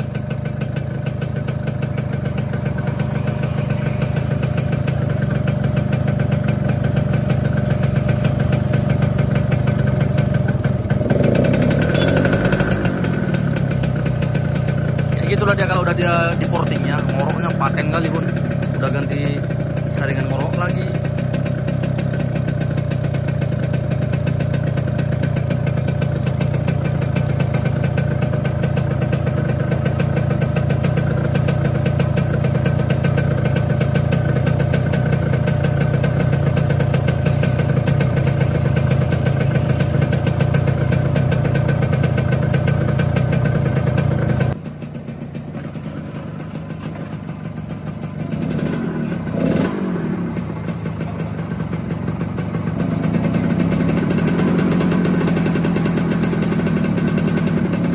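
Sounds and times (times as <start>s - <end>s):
two-stroke motorcycle engine running: 0.0s - 57.9s.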